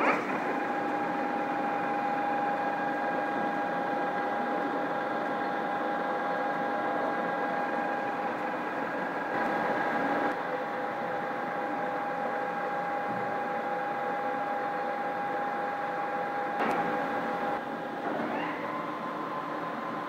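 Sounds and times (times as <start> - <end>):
lathe gear whine: 0.0 - 20.0.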